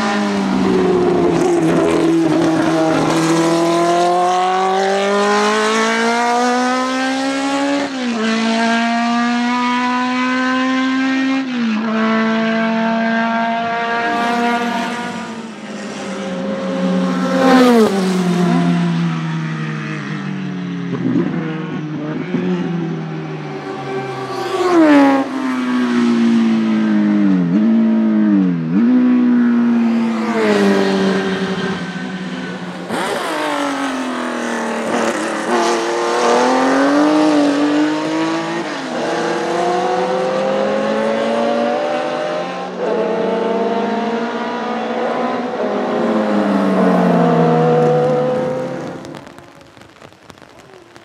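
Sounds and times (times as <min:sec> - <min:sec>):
race car engines passing: 0:00.0 - 0:50.3.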